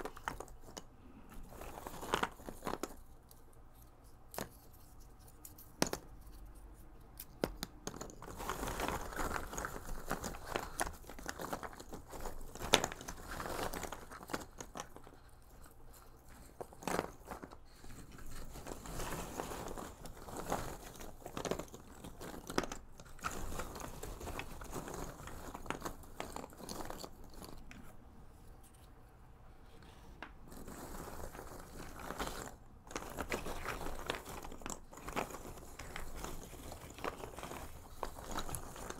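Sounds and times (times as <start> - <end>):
puzzle pieces rustling and clicking: 0.0 - 29.0, 29.8 - 38.9.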